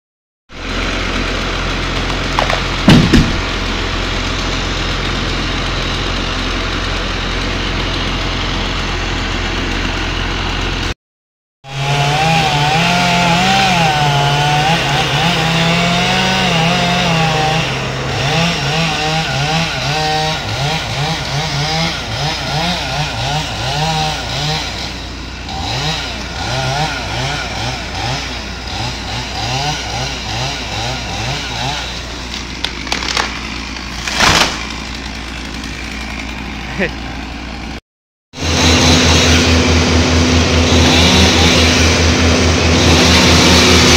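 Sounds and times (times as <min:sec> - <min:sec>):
engine droning: 0:00.5 - 0:11.0, 0:11.7 - 0:37.8, 0:38.4 - 0:43.9
chainsaw cutting wood: 0:00.6 - 0:11.0, 0:11.7 - 0:37.8, 0:38.4 - 0:43.9.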